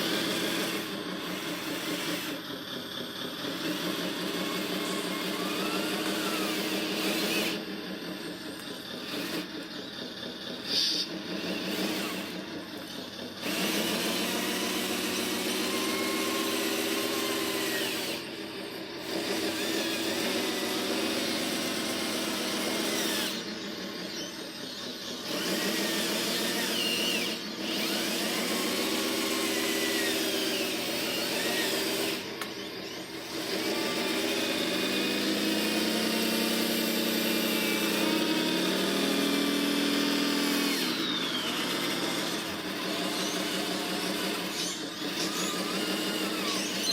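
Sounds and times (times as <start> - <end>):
small electric motors whirring: 0.0 - 46.9.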